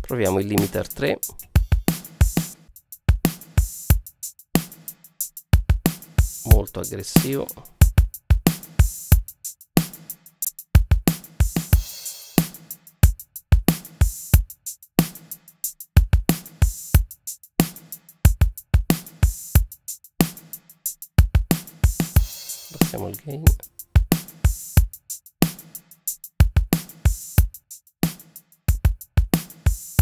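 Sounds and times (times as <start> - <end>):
compressed drum kit loop: 0.0 - 30.0.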